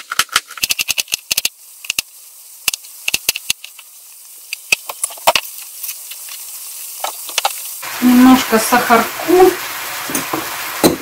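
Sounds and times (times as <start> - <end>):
mushrooms frying in a pan: 0.6 - 11.0.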